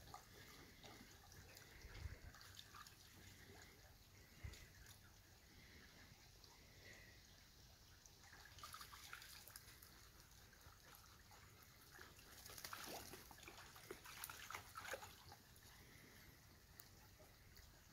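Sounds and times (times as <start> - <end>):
dogs wading in water: 0.0 - 17.9
soft splashes and trickles: 0.0 - 17.9.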